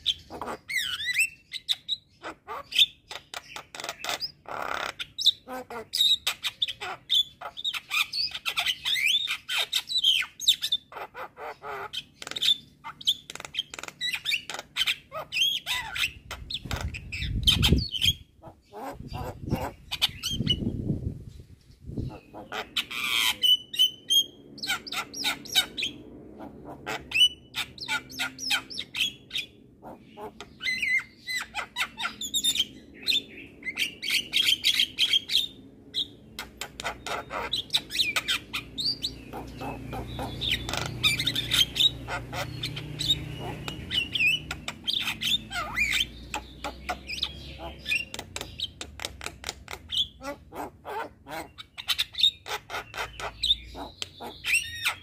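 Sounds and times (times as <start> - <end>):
myna bird chattering and whistling: 0.0 - 55.0.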